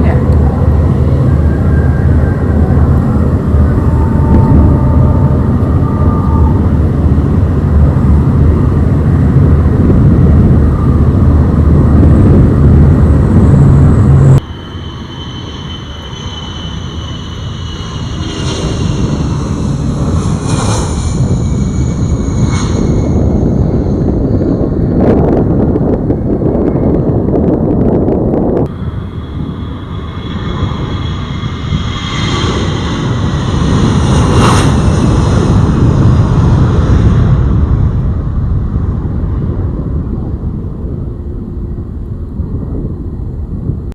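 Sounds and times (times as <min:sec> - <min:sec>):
turboprop engines rumble and whine: 0:00.0 - 0:43.9.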